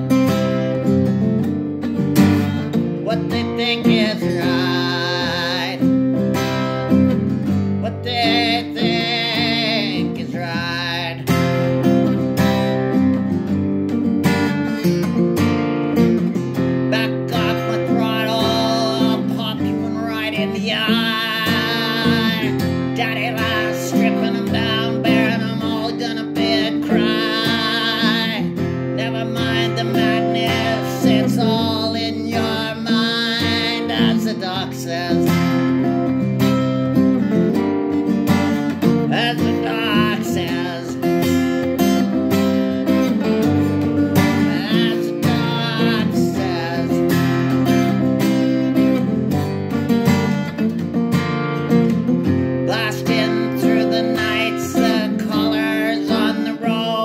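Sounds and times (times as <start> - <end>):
acoustic guitar strumming: 0.0 - 57.0
person singing: 2.2 - 13.0, 16.4 - 36.6, 37.5 - 49.7, 52.2 - 57.0.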